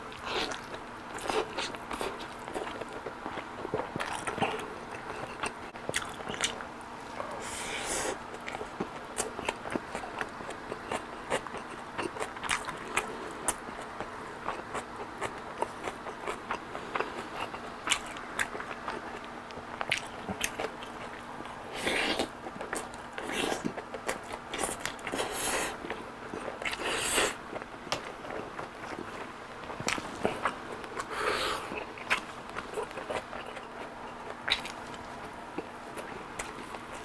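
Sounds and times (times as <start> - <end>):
chewing and lip-smacking: 0.1 - 37.0.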